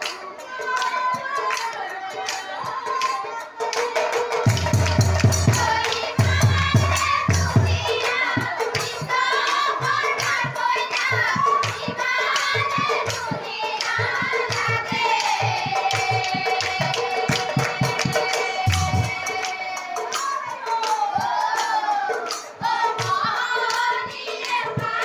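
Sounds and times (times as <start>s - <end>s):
fast drums and percussion: 0.0s - 25.0s.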